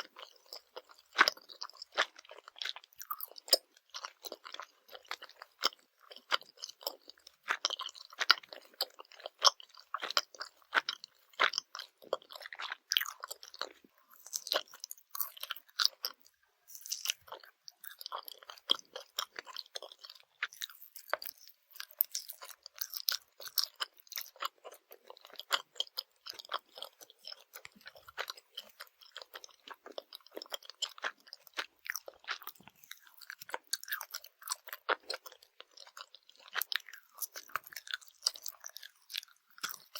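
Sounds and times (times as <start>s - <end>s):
chewing jelly candies: 0.0s - 39.9s.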